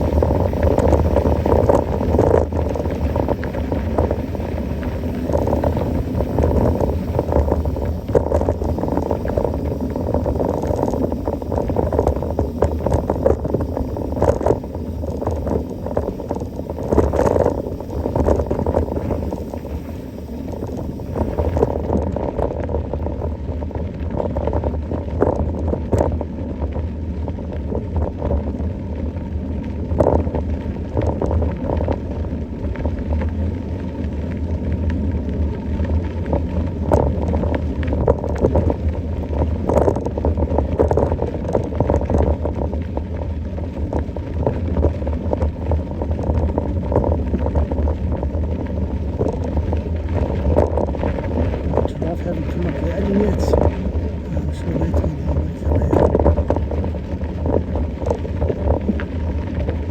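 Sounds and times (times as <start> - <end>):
low rumble of bike ride noise: 0.0 - 59.9.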